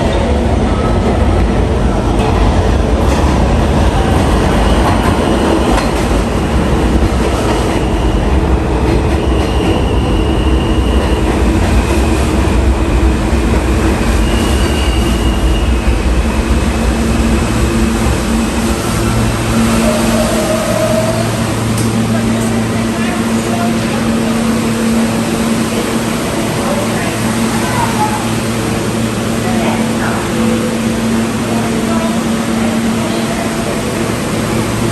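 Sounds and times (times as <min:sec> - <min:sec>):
subway train wheels rumbling: 0:00.0 - 0:34.9.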